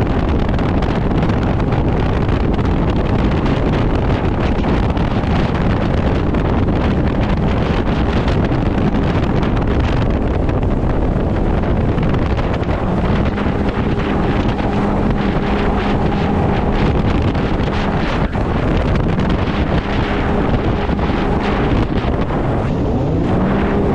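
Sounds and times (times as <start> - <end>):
boat engine hum: 0.0 - 23.9
wind buffeting microphone: 0.0 - 23.9.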